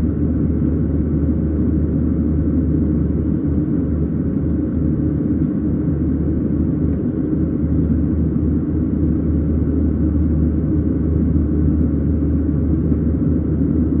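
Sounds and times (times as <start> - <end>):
airplane cabin roar: 0.0 - 14.0.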